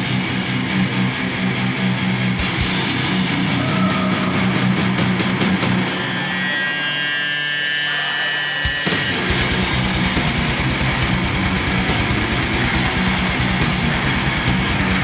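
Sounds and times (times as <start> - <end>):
rock band music: 0.0 - 15.0.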